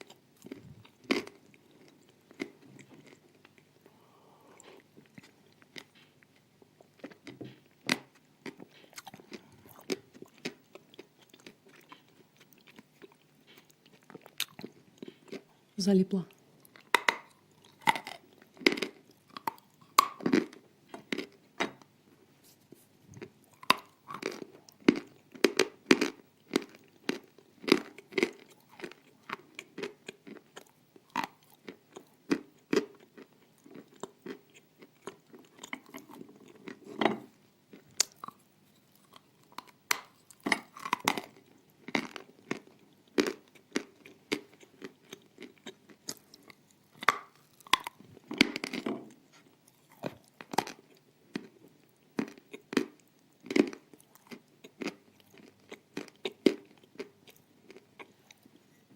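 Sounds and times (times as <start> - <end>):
soft chewing: 0.0 - 58.9.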